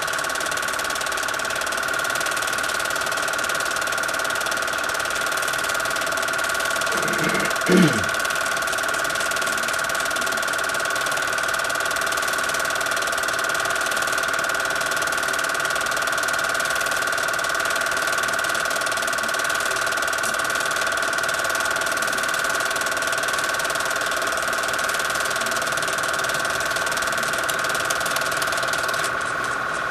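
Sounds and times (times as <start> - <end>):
projector whine: 0.0 - 15.1, 15.7 - 29.9
film projector clattering: 0.0 - 29.9.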